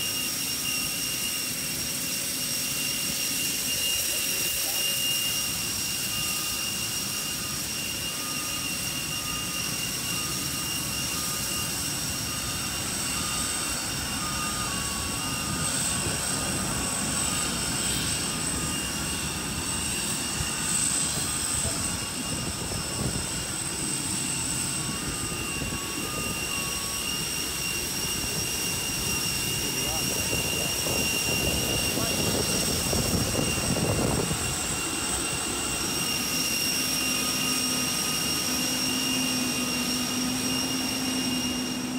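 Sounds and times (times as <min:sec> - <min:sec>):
jet turbine whine: 0:00.0 - 0:41.9.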